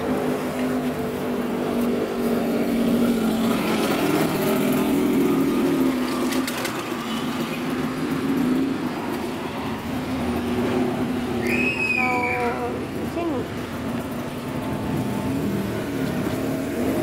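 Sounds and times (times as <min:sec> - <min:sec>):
motorcycle engines humming: 0:00.0 - 0:17.0
motorcycle passing: 0:00.0 - 0:17.0.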